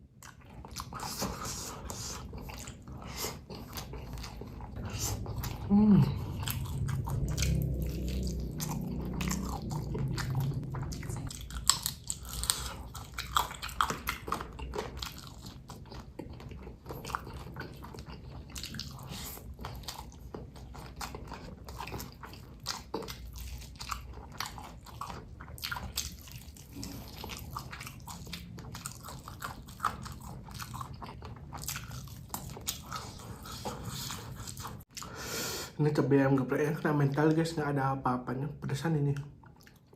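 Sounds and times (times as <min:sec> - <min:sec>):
person chewing crunchy food: 0:00.0 - 0:35.3, 0:39.3 - 0:39.9.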